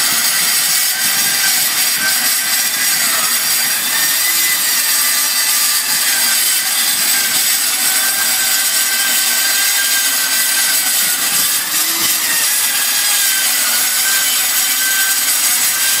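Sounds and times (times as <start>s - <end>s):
circular saw cutting metal: 0.0s - 16.0s.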